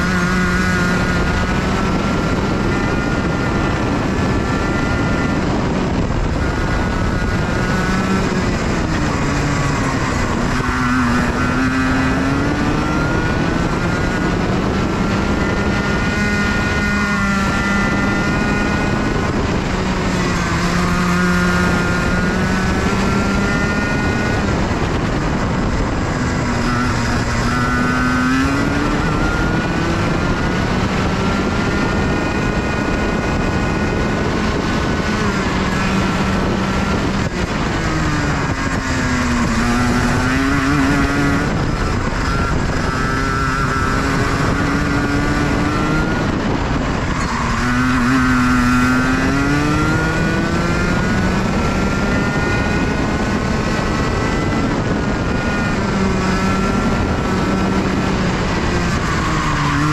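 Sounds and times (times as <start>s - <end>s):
kart engine revving: 0.0s - 59.9s
wind and road noise: 0.0s - 59.9s.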